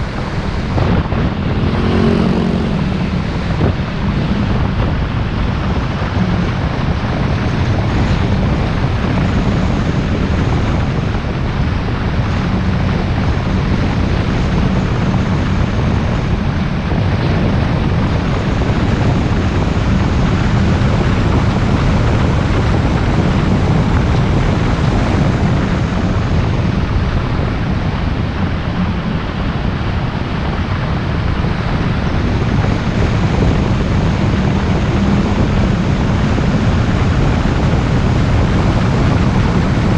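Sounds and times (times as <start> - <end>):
road and engine noise: 0.0 - 39.9
wind buffeting microphone: 0.0 - 39.9.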